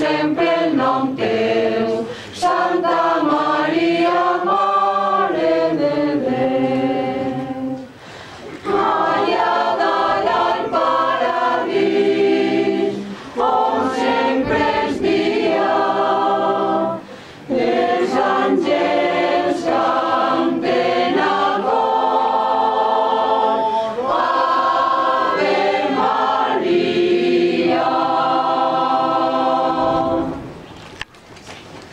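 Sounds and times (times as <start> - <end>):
choir singing unaccompanied: 0.0 - 30.6.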